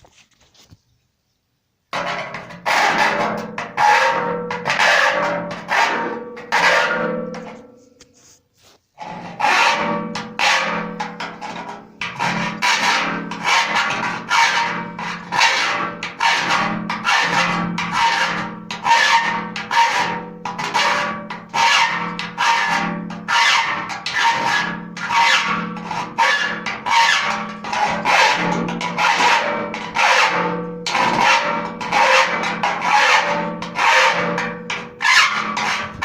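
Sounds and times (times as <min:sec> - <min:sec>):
file rasping on sheet metal: 0:02.0 - 0:36.0.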